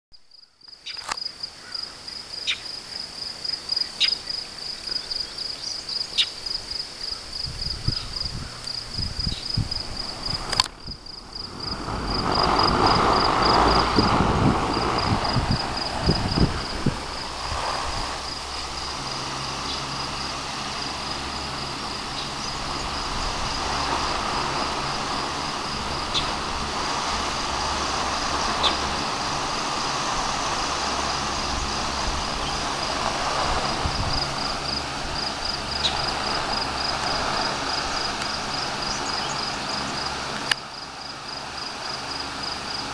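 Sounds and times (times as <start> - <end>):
insects chirping: 0.2 - 42.9
electric fan whirring: 7.2 - 42.9.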